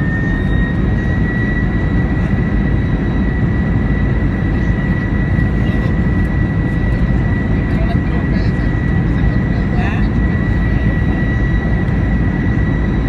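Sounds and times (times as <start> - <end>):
jet engine rumble and whine: 0.0 - 13.0.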